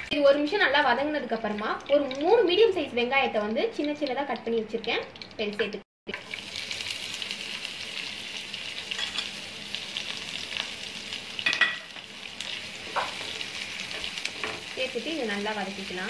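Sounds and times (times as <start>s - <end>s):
onions sizzling in hot oil: 0.2s - 16.0s.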